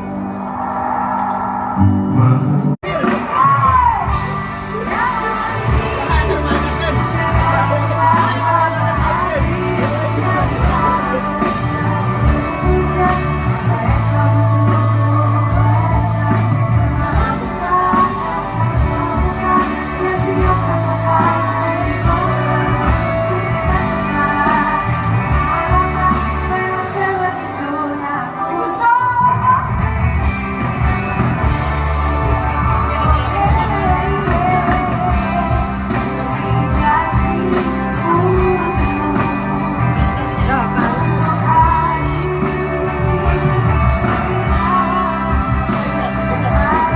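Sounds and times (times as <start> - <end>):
live pop band playing: 0.0 - 46.9
person singing: 1.8 - 29.8, 31.6 - 46.9.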